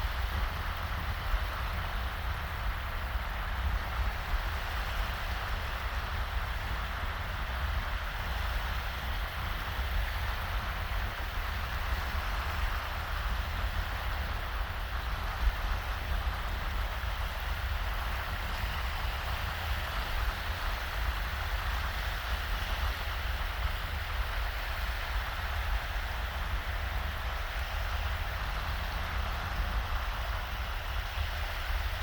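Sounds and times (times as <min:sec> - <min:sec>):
waves washing onto sandy beach: 0:00.0 - 0:32.0
wind rumble on microphone: 0:00.0 - 0:32.0.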